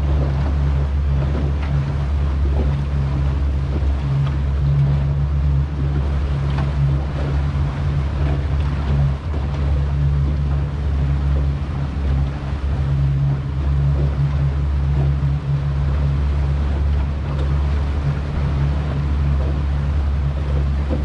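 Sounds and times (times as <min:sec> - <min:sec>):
outboard motor running: 0:00.0 - 0:21.0
rushing water: 0:00.0 - 0:21.0
wind: 0:00.0 - 0:21.0.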